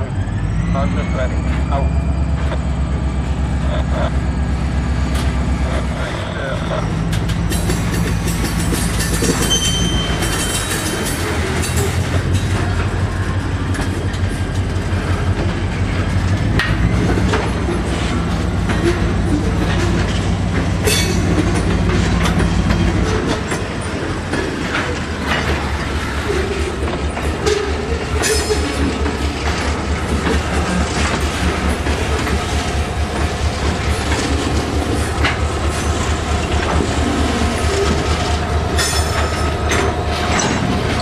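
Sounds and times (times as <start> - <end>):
diesel locomotive engine: 0.0 - 41.0
wheels clicking over rail joints: 7.0 - 41.0.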